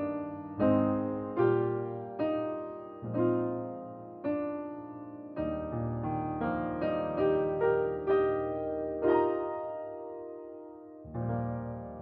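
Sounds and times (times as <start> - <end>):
slow solo piano: 0.0 - 12.0.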